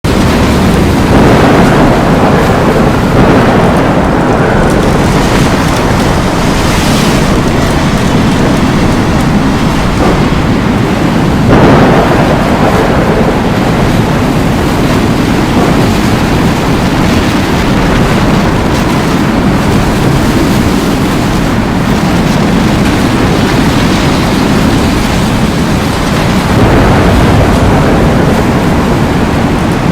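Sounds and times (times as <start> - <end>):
deep rumble: 0.0 - 29.9
rain: 0.0 - 29.9
wind: 0.0 - 29.9.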